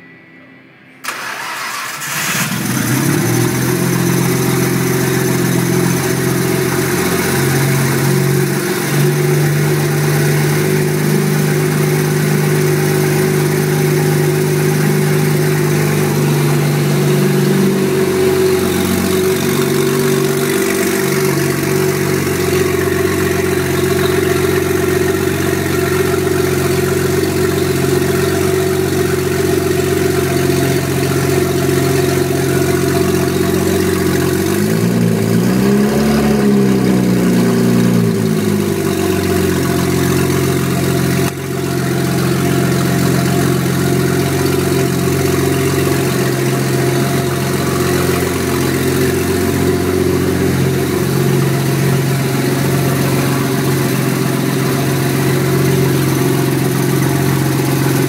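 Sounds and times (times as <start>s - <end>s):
car engine starting and idling: 1.0s - 58.0s.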